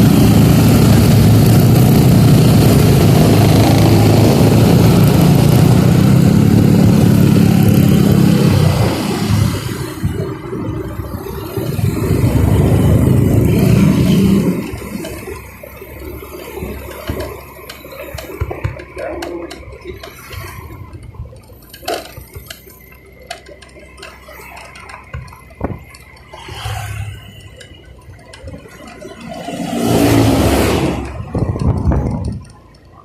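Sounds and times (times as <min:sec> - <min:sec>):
motorcycle low rumble: 0:00.0 - 0:33.0.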